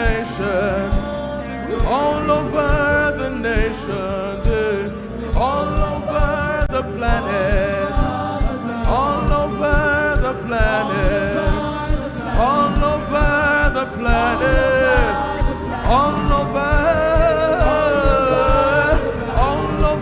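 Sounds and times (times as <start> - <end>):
band playing: 0.0 - 20.0
person singing wordless phrases: 0.0 - 20.0
steady drum beat: 1.8 - 20.0.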